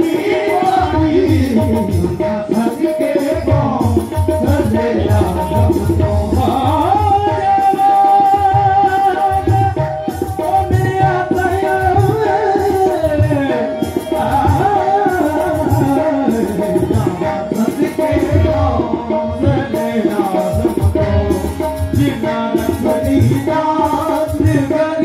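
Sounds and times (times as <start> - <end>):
hand drum beats: 0.0 - 25.0
man singing: 0.0 - 25.0.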